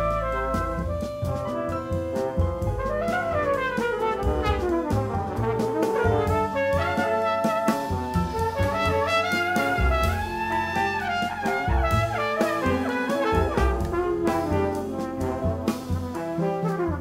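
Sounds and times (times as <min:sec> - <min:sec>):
bass notes: 0:00.0 - 0:17.0
jazz brass ensemble: 0:00.0 - 0:17.0
drum hits: 0:00.5 - 0:16.4.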